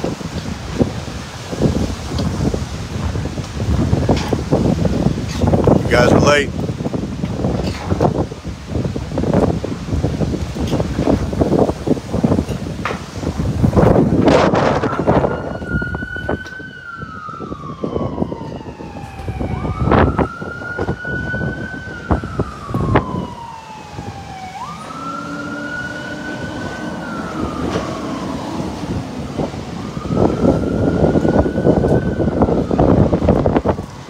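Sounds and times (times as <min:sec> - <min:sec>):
emergency vehicle siren wailing: 0:00.0 - 0:34.0
wind buffeting microphone: 0:00.0 - 0:34.0.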